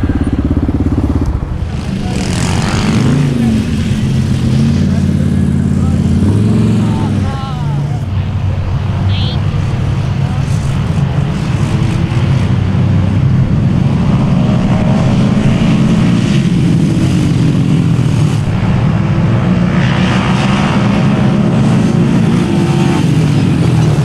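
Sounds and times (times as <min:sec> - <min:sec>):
quad engines revving: 0:00.0 - 0:24.0.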